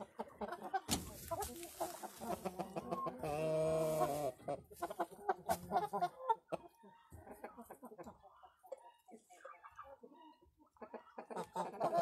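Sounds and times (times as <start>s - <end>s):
chickens clucking: 0.0s - 12.0s
drawn-out chicken call: 0.0s - 12.0s.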